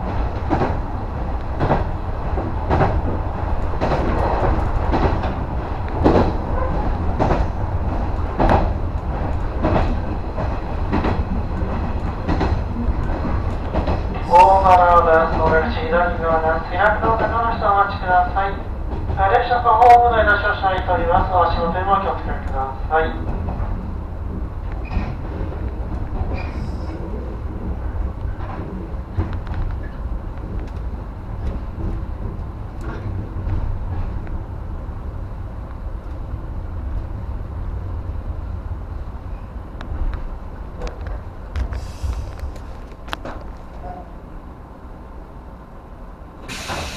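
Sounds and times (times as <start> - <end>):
train low rumble: 0.0 - 46.9.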